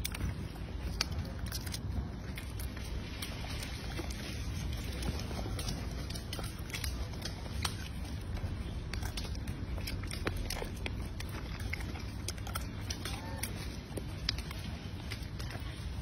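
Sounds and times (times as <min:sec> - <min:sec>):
monkey chewing nuts: 0:00.0 - 0:16.0.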